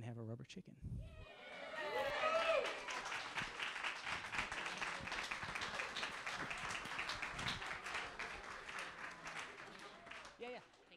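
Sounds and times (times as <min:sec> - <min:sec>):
audience applauding: 0:01.5 - 0:10.9.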